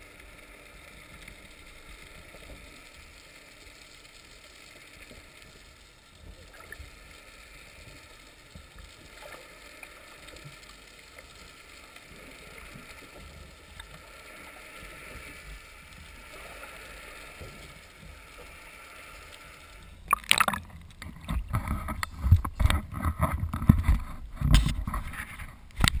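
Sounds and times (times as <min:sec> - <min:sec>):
muffled underwater hiss: 0:00.0 - 0:26.0
water splashes: 0:04.9 - 0:26.0.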